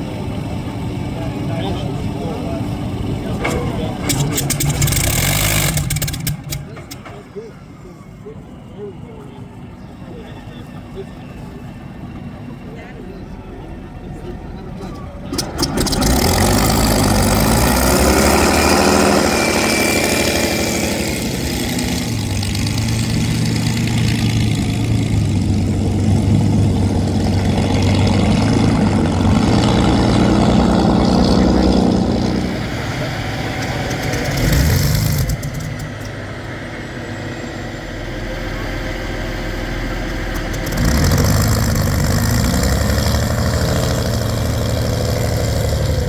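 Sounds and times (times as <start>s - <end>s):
loud aircraft engine running: 0.0s - 46.0s.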